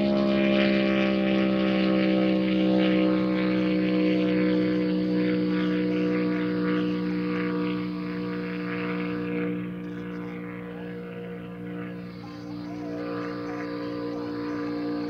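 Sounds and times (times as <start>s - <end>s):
distant car engine droning: 0.0s - 15.0s.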